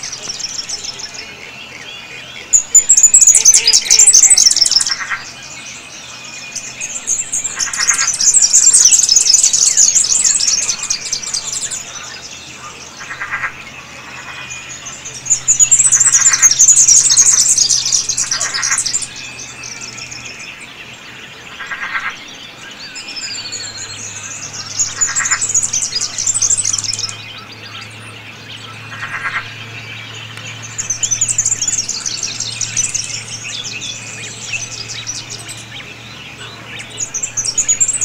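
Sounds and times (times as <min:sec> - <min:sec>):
birds chattering high-pitched: 0:00.0 - 0:38.0
buzzy pulsed bird call: 0:02.3 - 0:12.4, 0:13.0 - 0:20.4, 0:23.0 - 0:38.0.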